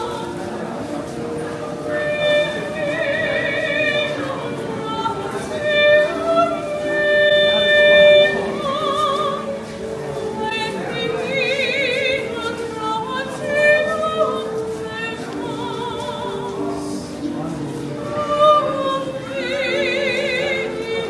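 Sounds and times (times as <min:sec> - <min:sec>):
operatic singing with vibrato: 0:00.0 - 0:21.0.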